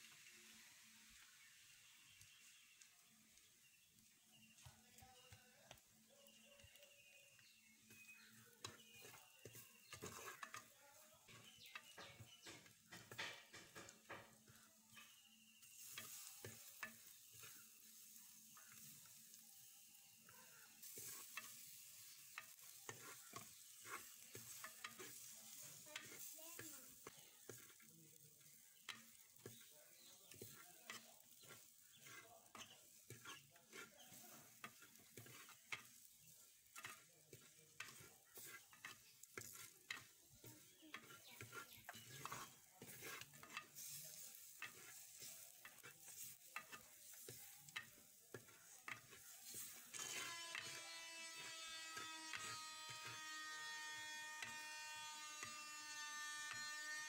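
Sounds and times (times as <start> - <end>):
onions sizzling in oil: 0.0 - 57.0
spoon scraping and knocking a pot: 7.4 - 19.1, 20.8 - 27.8, 28.5 - 57.0.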